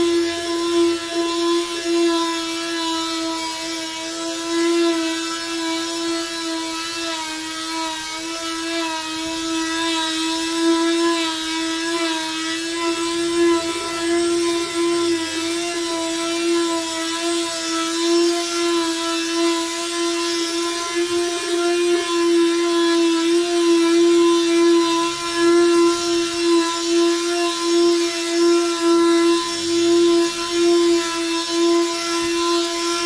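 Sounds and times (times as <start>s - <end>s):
electric sander motor whine: 0.0s - 33.0s
sanding pad rasping on wood: 0.0s - 33.0s.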